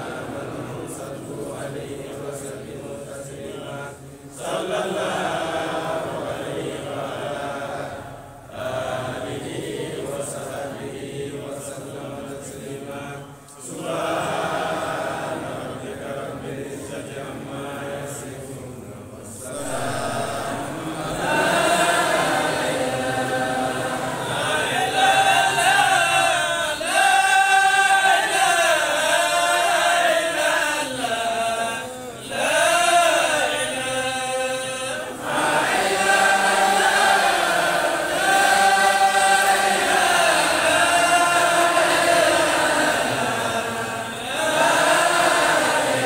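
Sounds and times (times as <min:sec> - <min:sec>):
group chanting: 0:00.0 - 0:46.0.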